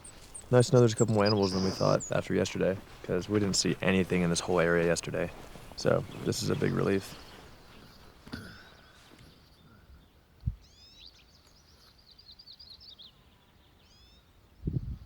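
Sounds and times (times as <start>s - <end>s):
songbird song: 0.0s - 15.0s.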